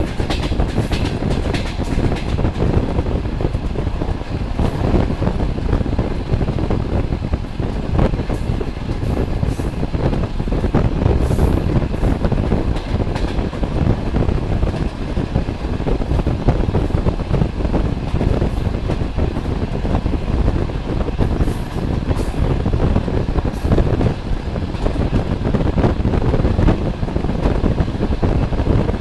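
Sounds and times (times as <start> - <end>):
rushing air: 0.0 - 29.0
train wheels rumbling on rails: 0.0 - 29.0.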